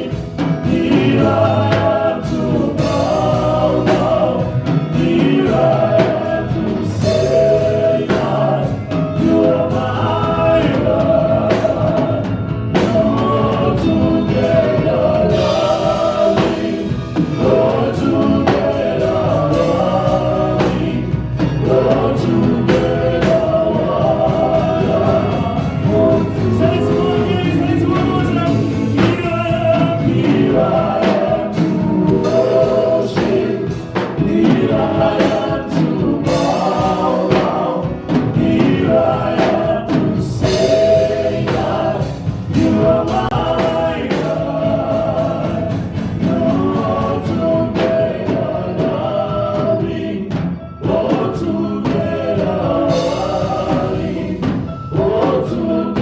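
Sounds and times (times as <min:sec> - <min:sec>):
gospel choir singing: 0:00.0 - 0:56.0
live band playing: 0:00.0 - 0:56.0.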